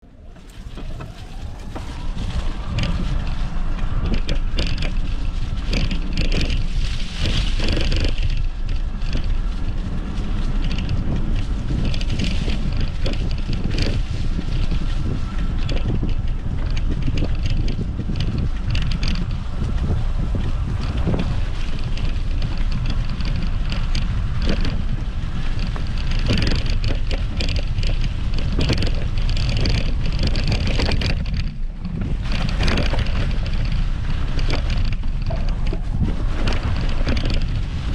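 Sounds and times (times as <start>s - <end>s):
tyres crunching over trail: 0.0s - 37.9s
wind rumbling on microphone: 0.0s - 37.9s.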